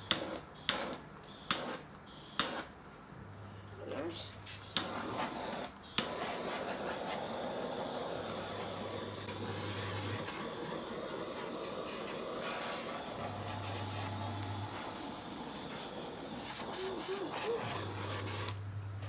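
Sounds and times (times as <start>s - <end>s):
blowtorch hissing: 0.0s - 2.7s, 4.6s - 18.6s.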